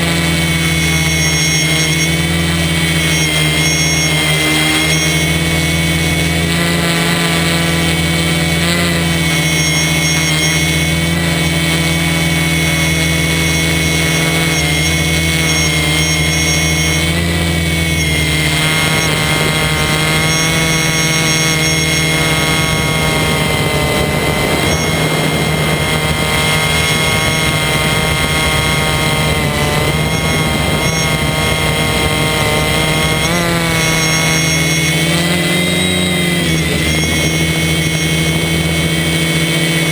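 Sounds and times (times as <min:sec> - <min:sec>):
quadcopter propellers whining: 0:00.0 - 0:39.9.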